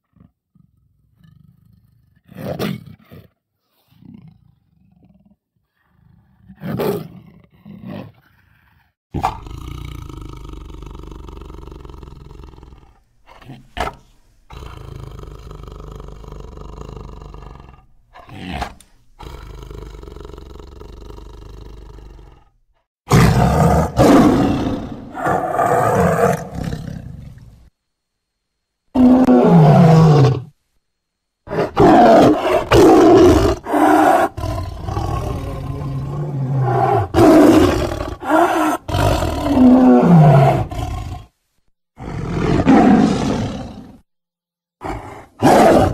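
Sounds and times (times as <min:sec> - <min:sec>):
big cat growling: 0:00.1 - 0:27.7, 0:28.9 - 0:30.6, 0:31.5 - 0:41.3, 0:42.0 - 0:44.1, 0:44.8 - 0:45.9
big cat roars and snarls: 0:00.1 - 0:27.7, 0:28.9 - 0:30.6, 0:31.5 - 0:41.4, 0:42.0 - 0:44.1, 0:44.8 - 0:45.9.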